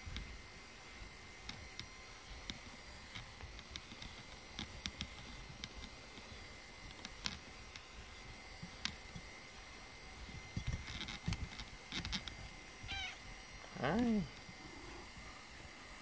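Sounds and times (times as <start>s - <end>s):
brush stroking cat fur: 0.8s - 15.4s.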